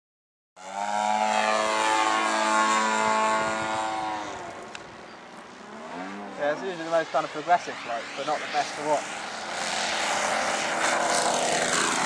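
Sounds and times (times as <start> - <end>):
model plane engine drone: 0.6 - 12.0.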